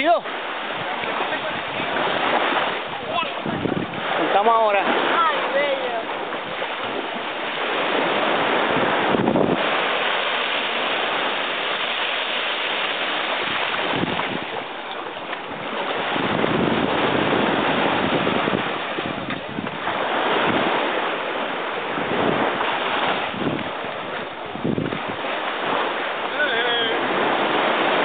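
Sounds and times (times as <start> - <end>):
small waves washing on shore: 0.0 - 28.0
wind on microphone: 0.0 - 28.0.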